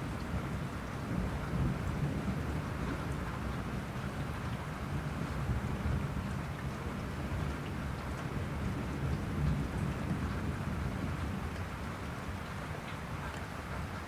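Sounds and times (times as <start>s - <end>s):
low rumble of thunder: 0.0s - 14.0s
steady rain falling: 0.0s - 14.0s.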